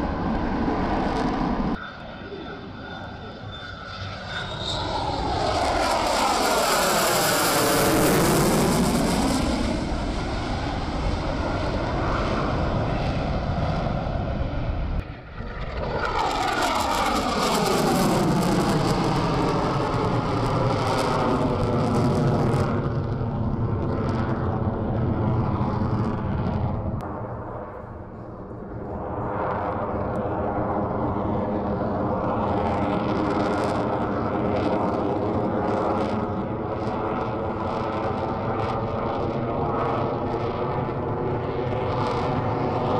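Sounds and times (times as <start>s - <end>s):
fighter jet engines roaring past: 0.0s - 42.9s.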